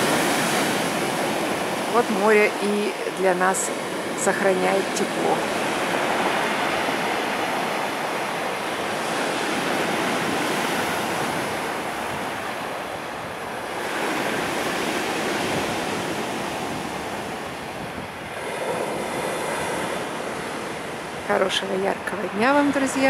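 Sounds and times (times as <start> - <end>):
waves breaking on pebble beach: 0.0 - 21.3.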